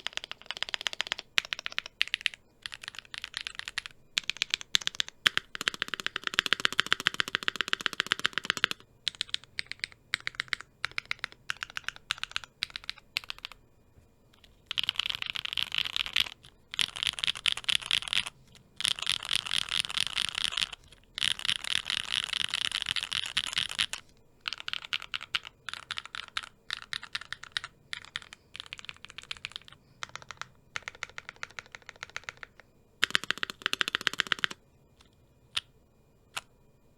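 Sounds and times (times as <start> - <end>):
typing on mechanical keyboard: 0.0 - 13.6, 14.4 - 34.6.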